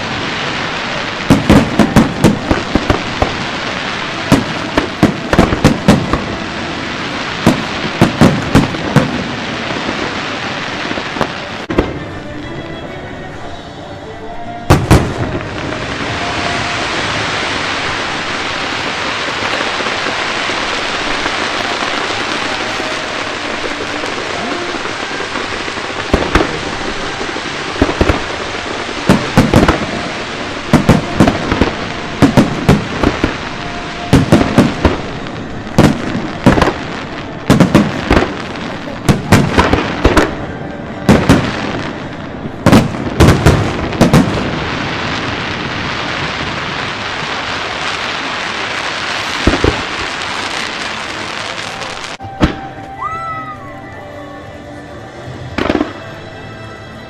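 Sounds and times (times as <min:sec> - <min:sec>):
fireworks bangs: 0:00.0 - 0:13.8, 0:14.5 - 0:54.4, 0:55.4 - 0:56.2
fireworks crackling hiss: 0:00.0 - 0:57.0.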